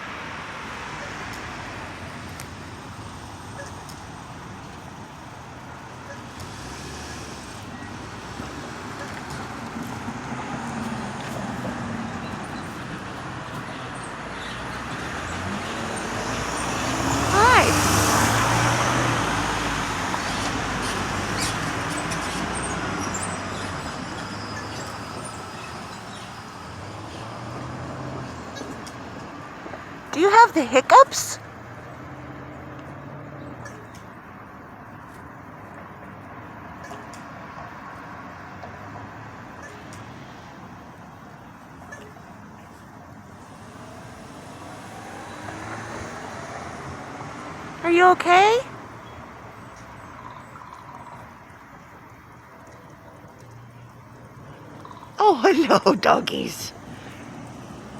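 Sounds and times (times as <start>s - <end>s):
road traffic hum: 0.0s - 57.9s.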